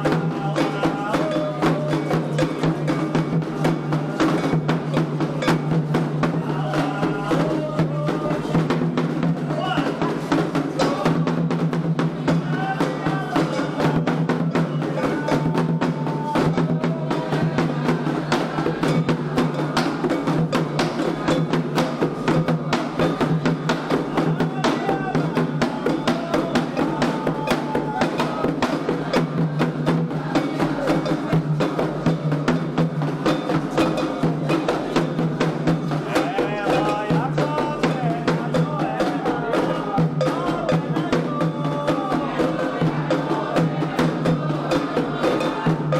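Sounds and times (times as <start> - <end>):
hand drums fast rhythm: 0.0 - 45.9
people singing: 0.0 - 45.9.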